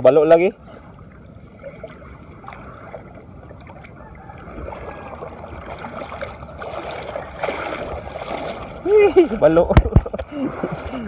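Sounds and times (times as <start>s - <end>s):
water lapping at shoreline: 0.0s - 11.0s.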